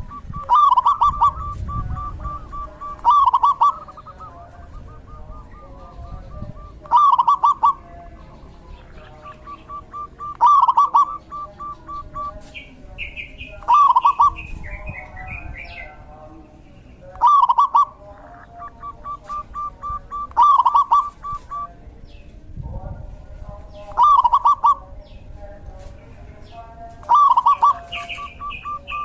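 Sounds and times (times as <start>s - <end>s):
dove cooing: 0.0s - 16.4s, 17.0s - 21.8s, 23.8s - 25.0s, 27.0s - 29.0s
high-pitched bird chirping: 0.0s - 22.8s, 23.7s - 25.3s, 26.4s - 29.0s.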